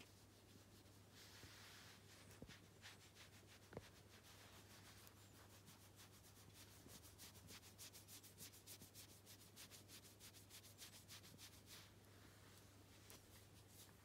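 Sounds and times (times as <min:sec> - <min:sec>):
faint steady hum: 0:00.0 - 0:14.0
hand rubbing kitten fur: 0:00.0 - 0:14.0.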